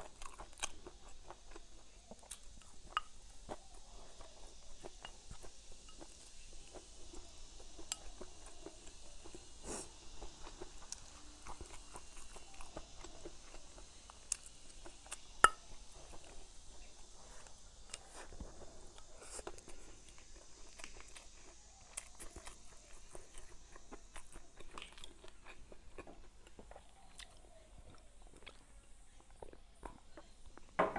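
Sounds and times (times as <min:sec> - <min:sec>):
chewing and crunching food: 0:00.0 - 0:30.8.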